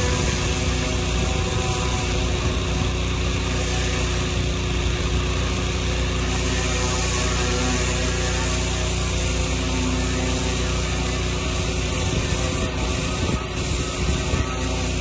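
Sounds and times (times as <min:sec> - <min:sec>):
pressure washer motor hum: 0:00.0 - 0:15.0.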